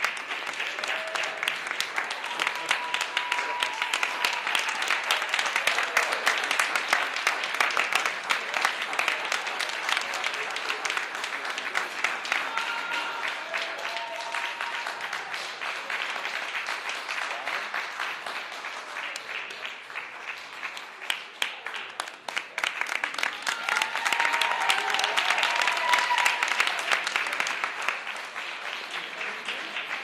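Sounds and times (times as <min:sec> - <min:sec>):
audience clapping: 0:00.0 - 0:30.0.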